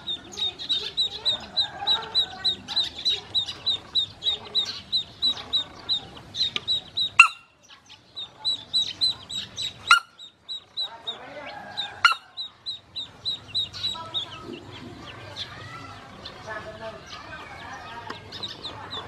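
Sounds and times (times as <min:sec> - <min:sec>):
ducklings peeping: 0:00.0 - 0:19.0.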